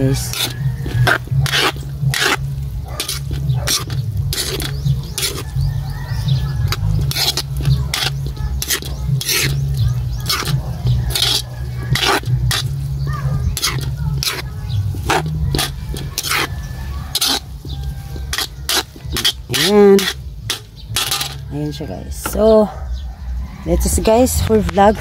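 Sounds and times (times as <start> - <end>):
metal spoon scraping steel wok: 0.0 - 22.4.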